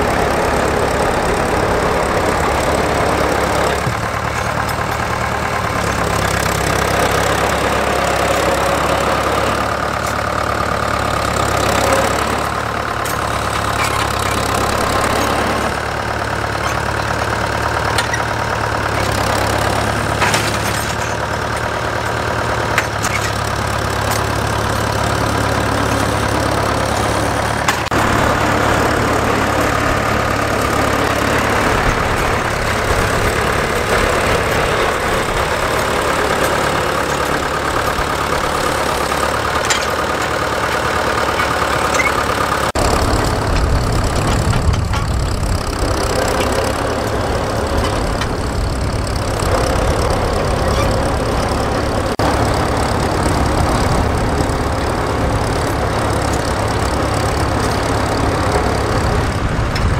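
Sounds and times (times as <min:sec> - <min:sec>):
tractor engines running: 0:00.0 - 0:59.9.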